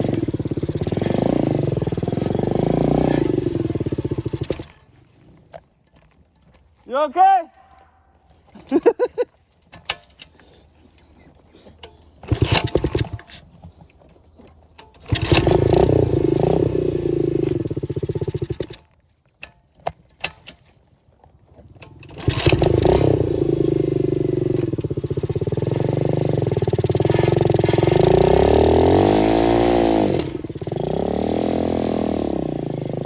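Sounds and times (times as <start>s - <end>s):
dirt bike engine starting and running: 0.0s - 7.4s, 8.1s - 33.0s.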